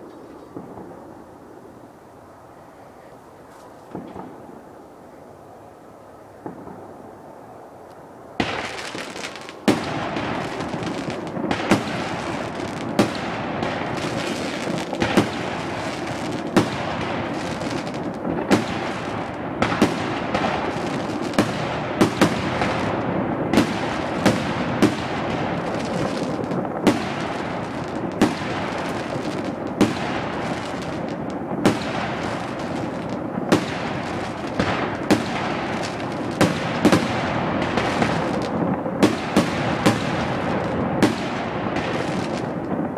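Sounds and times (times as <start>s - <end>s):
fireworks crackling and hissing: 0.0s - 42.9s
loud firework bangs: 0.5s - 1.1s, 3.9s - 4.7s, 6.4s - 7.1s, 8.4s - 42.9s.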